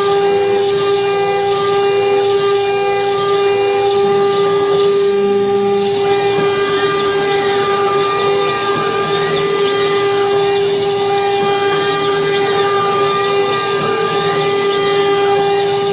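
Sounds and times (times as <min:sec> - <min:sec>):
spindle motor whine: 0:00.0 - 0:15.9
stepper motors changing pitch: 0:00.0 - 0:15.9.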